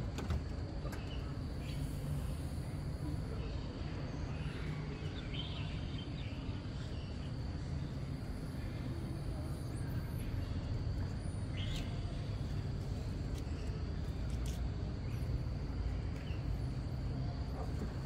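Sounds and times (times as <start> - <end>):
distant traffic: 0.0 - 18.0.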